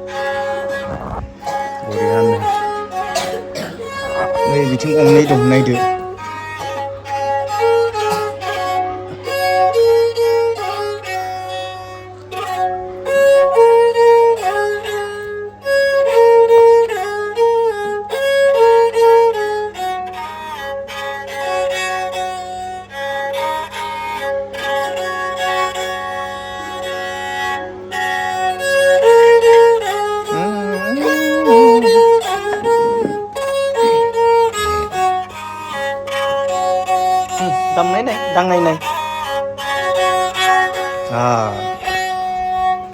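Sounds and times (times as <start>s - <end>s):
bowed fiddle melody: 0.0s - 42.9s.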